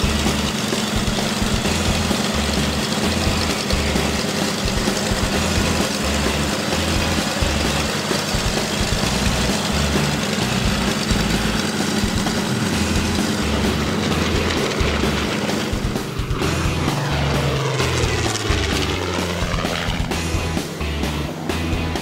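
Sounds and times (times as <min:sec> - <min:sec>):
aircraft piston engines idling: 0:00.0 - 0:22.0.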